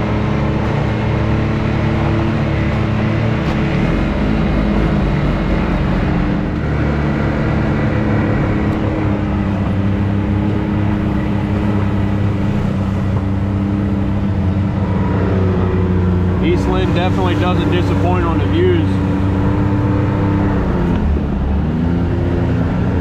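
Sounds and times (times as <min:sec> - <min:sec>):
utility vehicle engine droning: 0:00.0 - 0:23.0.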